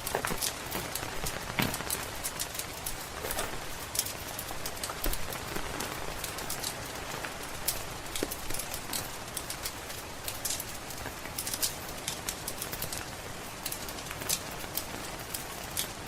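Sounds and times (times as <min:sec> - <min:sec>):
steady rain hiss: 0:00.0 - 0:16.0
wood fire crackling: 0:00.0 - 0:16.0.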